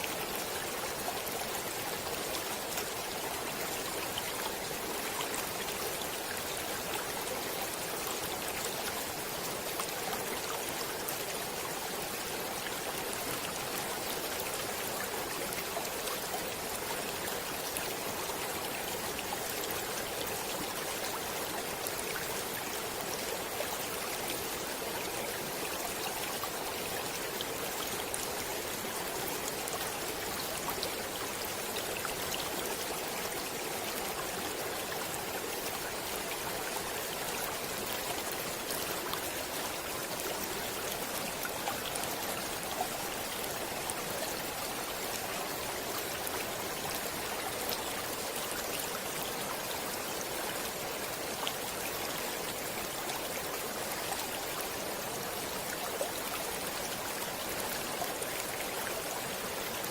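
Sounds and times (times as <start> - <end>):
stream of flowing water: 0.0 - 59.9.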